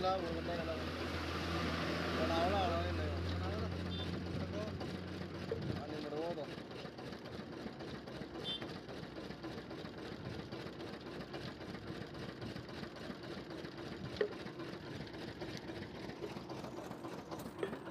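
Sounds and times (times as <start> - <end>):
sugarcane crusher engine droning: 0.0 - 17.9.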